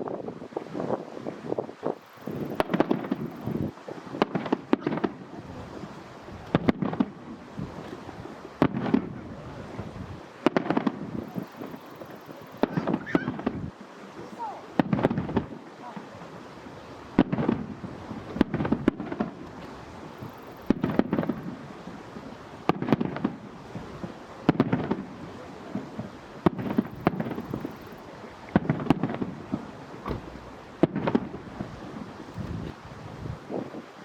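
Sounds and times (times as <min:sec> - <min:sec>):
fireworks crackle: 0:00.0 - 0:34.0
fireworks bangs: 0:01.5 - 0:32.8.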